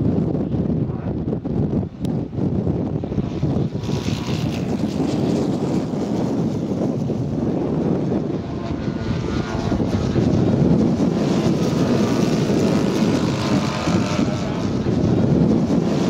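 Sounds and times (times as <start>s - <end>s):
model plane propeller engines: 0.0s - 16.0s.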